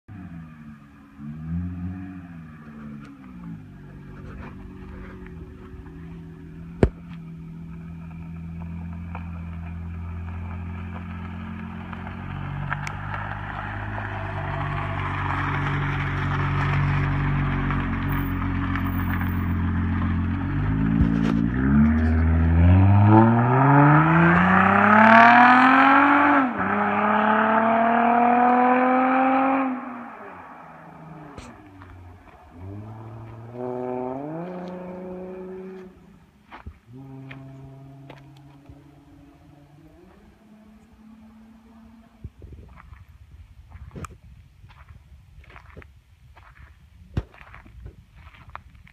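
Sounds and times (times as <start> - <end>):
car engine accelerating: 0.1 - 43.0.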